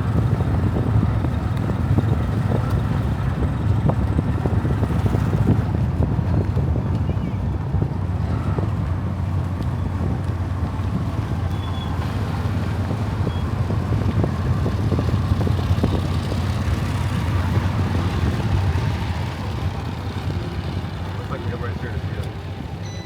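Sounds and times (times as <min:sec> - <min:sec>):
vehicle engine running: 0:00.0 - 0:23.0
wind noise: 0:00.0 - 0:23.0.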